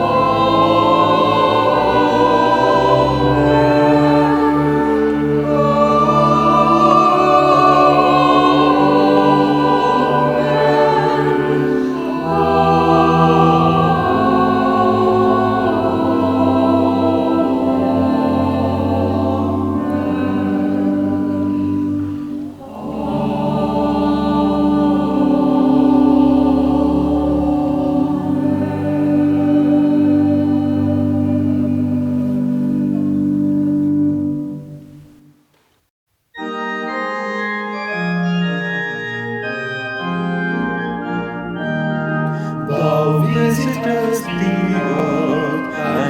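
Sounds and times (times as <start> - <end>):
church music chords: 0.0 - 35.6, 36.4 - 46.0.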